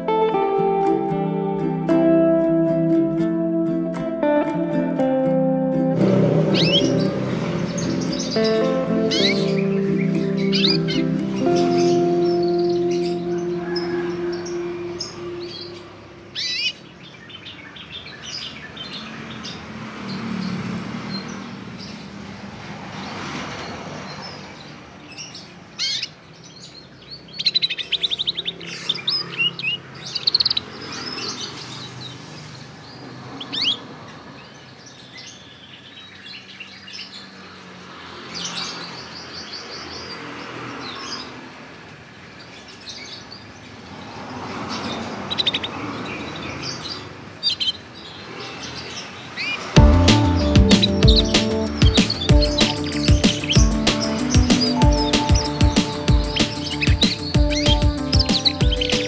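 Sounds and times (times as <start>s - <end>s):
canary chirps and trills: 6.4s - 22.2s, 23.6s - 41.5s, 42.2s - 59.0s.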